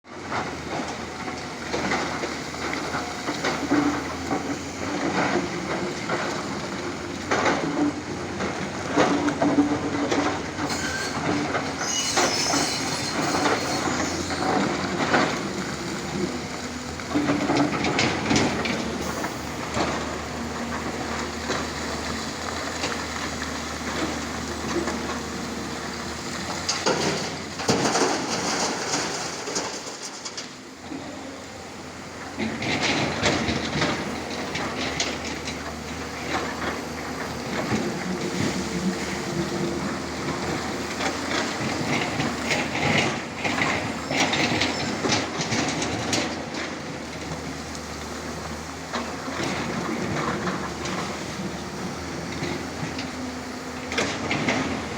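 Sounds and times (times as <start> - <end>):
diesel engine under load: 0.1 - 54.9.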